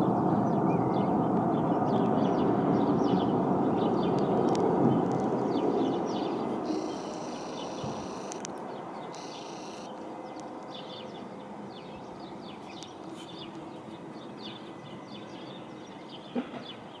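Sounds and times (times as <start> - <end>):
small birds chirping: 2.2 - 17.0.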